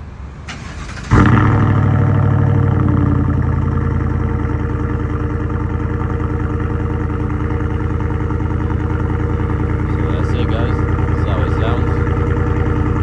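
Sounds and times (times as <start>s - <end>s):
pickup truck engine idling: 0.6s - 13.0s.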